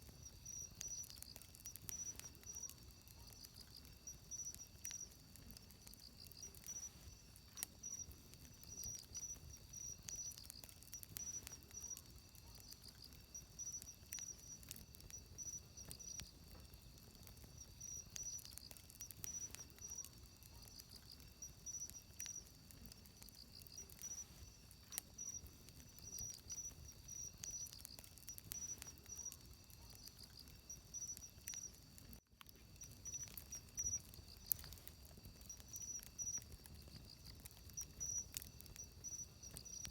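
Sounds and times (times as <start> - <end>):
insects chirping: 0.0 - 39.9
wood fire crackling: 0.0 - 39.9.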